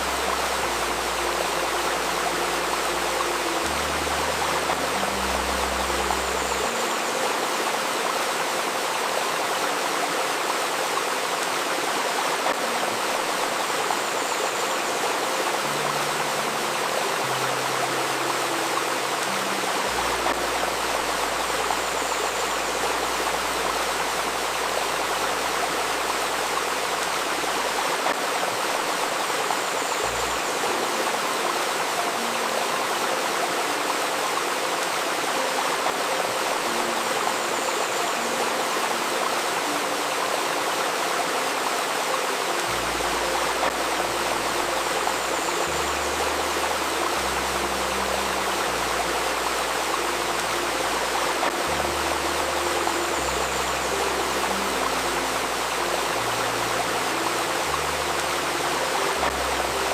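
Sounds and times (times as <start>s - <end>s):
river babbling: 0.0s - 59.9s.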